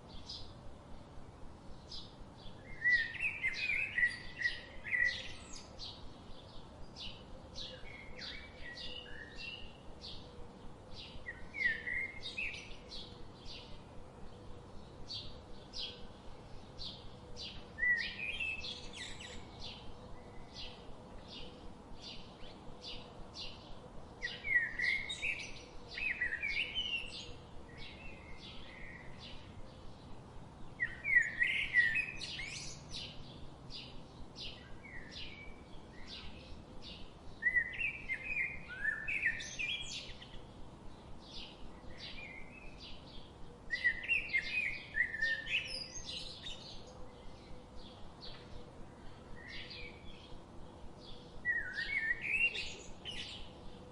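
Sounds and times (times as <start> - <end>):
bird warbling song: 1.8 - 10.3, 11.0 - 50.4, 51.0 - 53.9.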